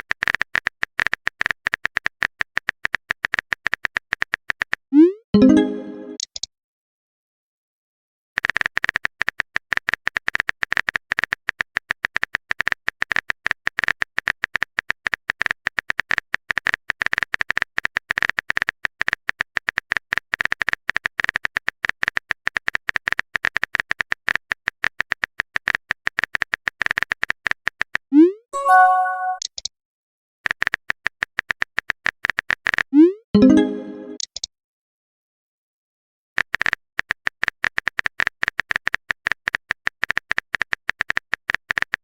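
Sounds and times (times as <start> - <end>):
typewriter text sound effect: 0.0 - 6.5, 8.4 - 28.0, 28.6 - 29.7, 30.4 - 34.5, 36.4 - 42.0.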